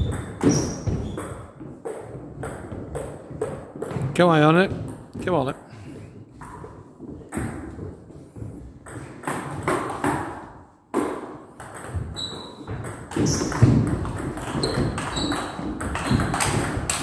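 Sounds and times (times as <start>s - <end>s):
table tennis ball bouncing: 0.0s - 4.1s, 6.4s - 17.0s.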